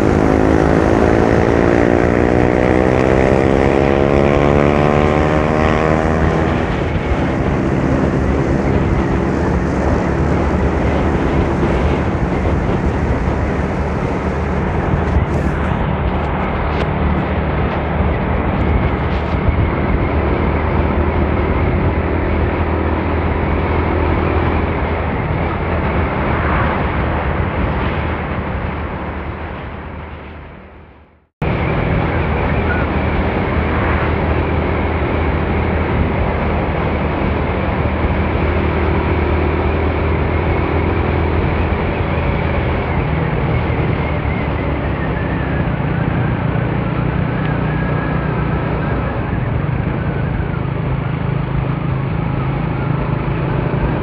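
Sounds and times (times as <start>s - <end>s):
motorcycle engine hum: 0.0s - 54.0s
wind rushing over microphone: 0.0s - 54.0s.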